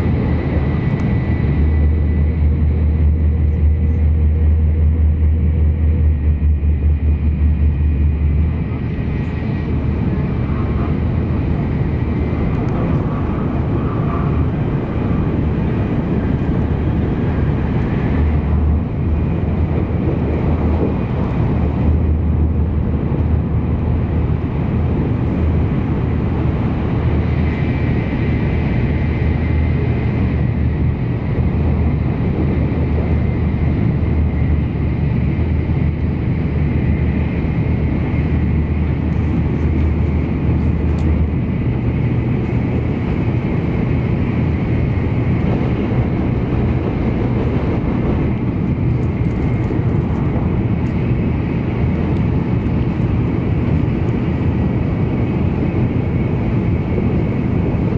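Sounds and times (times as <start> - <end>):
train running at high speed: 0.0 - 57.9.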